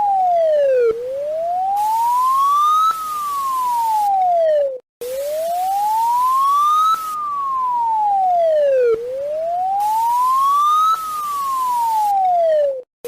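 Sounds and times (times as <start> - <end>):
emergency siren wailing: 0.0 - 12.8.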